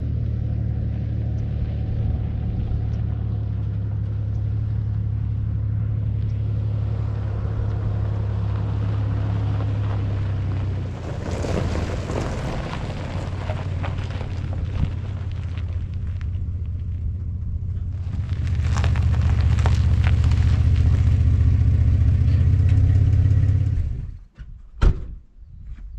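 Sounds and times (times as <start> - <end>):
vehicle engine humming: 0.0 - 24.3.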